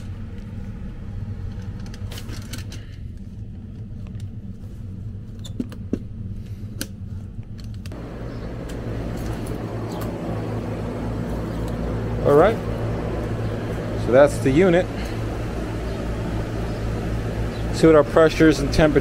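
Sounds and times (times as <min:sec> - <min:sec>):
air conditioner humming: 0:00.0 - 0:19.0
condensing unit rushing noise: 0:00.0 - 0:19.0.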